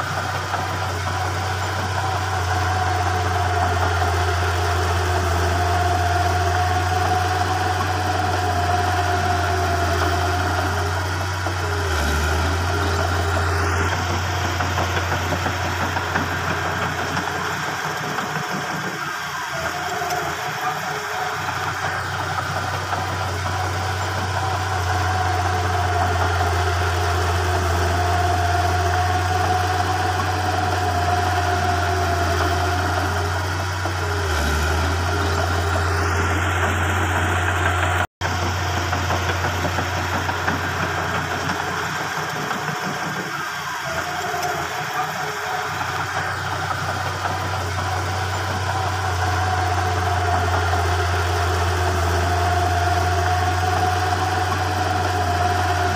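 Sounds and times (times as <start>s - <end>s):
diesel construction machinery running: 0.0s - 55.9s.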